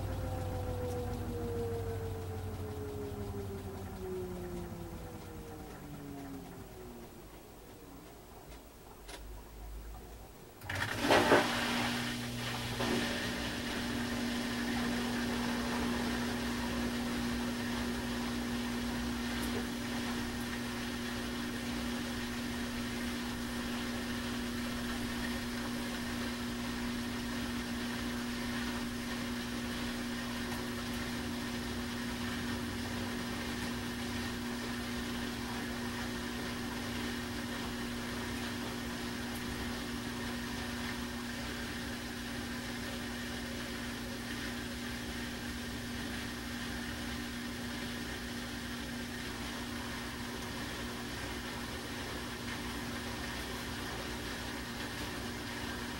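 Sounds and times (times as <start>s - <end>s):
washing machine humming: 0.0s - 55.9s.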